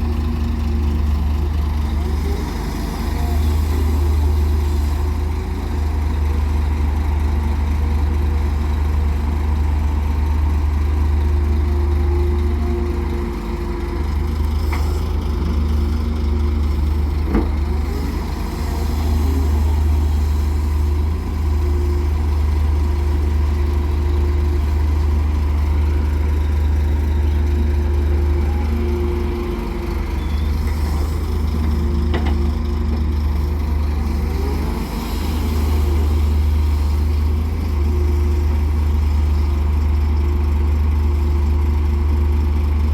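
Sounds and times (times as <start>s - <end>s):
excavator diesel engine droning: 0.0s - 42.9s.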